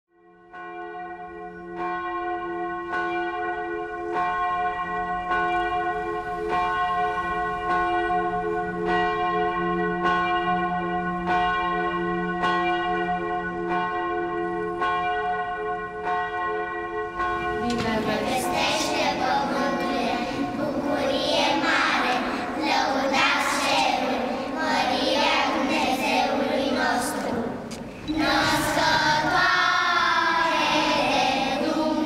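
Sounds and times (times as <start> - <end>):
church bell tolling: 0.2 - 32.0.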